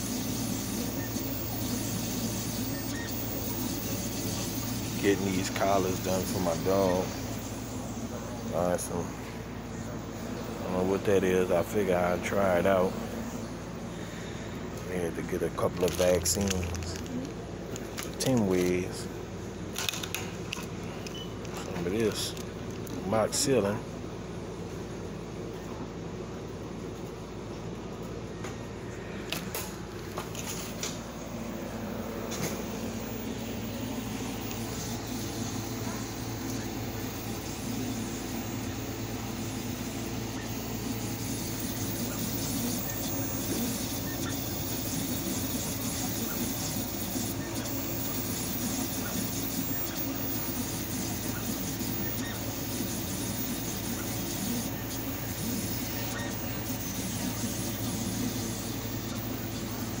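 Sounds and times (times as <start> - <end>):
engraving machine humming: 0.0 - 19.4, 30.2 - 60.0.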